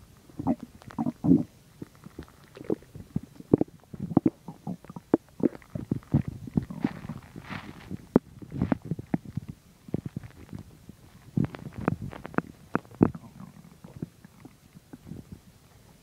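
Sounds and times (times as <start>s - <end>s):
stomach growling and gurgling: 0.3s - 16.0s.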